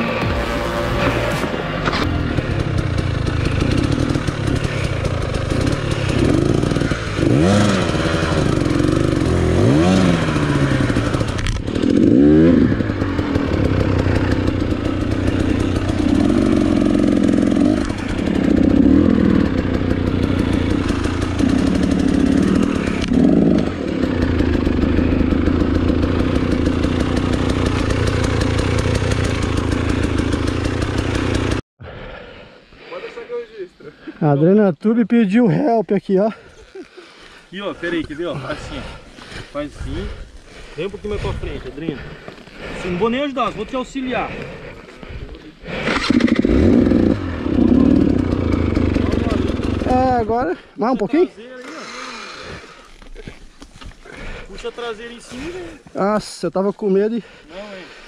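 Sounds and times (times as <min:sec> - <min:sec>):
dirt bike engine revving: 0:00.0 - 0:31.6, 0:37.5 - 0:53.4.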